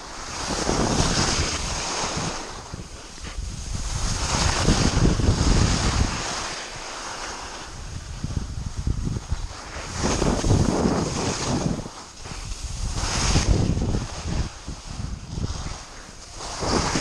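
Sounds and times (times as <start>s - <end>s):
skis scraping over snow: 0.0s - 17.0s
wind rushing over microphone: 0.0s - 17.0s.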